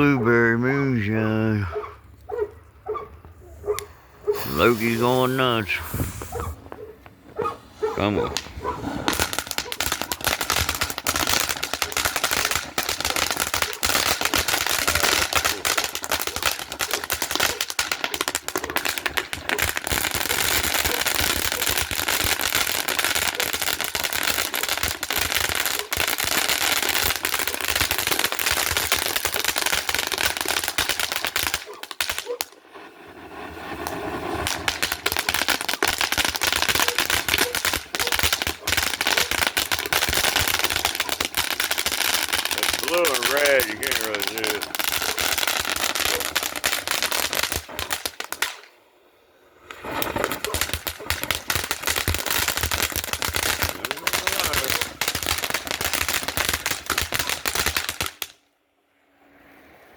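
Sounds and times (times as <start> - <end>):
firework fountains crackling: 0.0 - 48.8, 49.4 - 58.4
firework rushing hiss: 3.4 - 48.7, 49.6 - 58.3.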